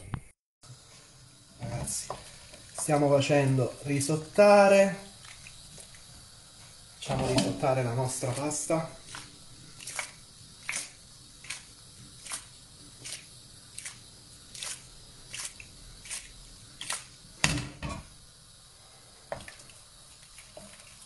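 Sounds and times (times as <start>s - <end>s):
spatula stirring pasta in a pan: 0.7s - 21.0s.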